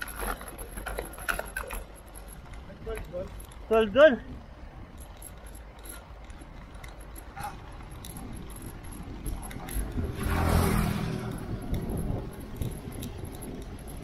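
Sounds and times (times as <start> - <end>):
bike rattles and clicks: 0.0 - 14.0
wind rumbling on microphone: 0.0 - 14.0.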